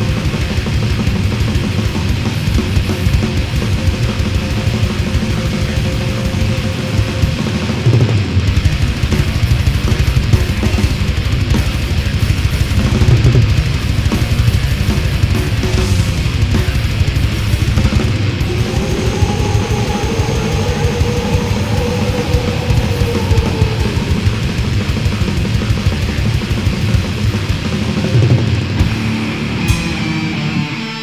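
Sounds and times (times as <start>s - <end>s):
fast dense drumming: 0.0s - 30.6s
distorted electric guitars: 0.0s - 31.0s.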